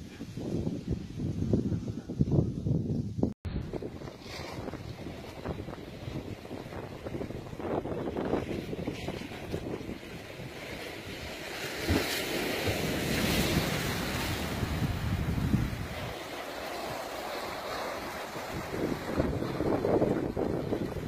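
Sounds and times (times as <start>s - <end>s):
wind buffeting microphone: 0.0s - 21.0s
surf washing against rocks: 3.6s - 21.0s.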